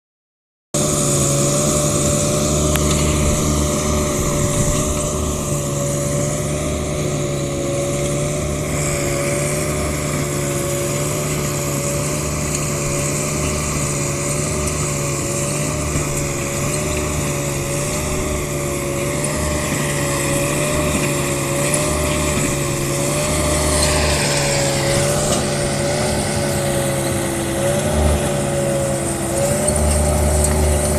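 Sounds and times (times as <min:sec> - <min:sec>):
steady machine whine: 0:00.8 - 0:30.9
track loader engine running: 0:00.8 - 0:30.9.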